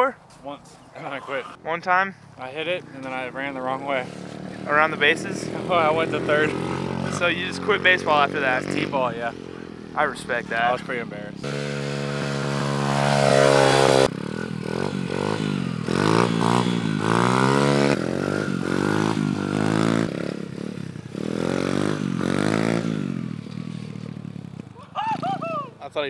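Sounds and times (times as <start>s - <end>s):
dirt bike engine revving: 2.8s - 25.4s.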